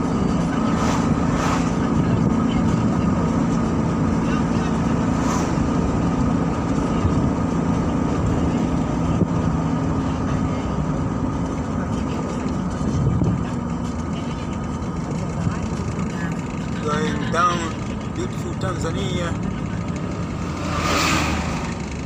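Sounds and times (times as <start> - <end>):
car engine hum and road noise: 0.0 - 22.0.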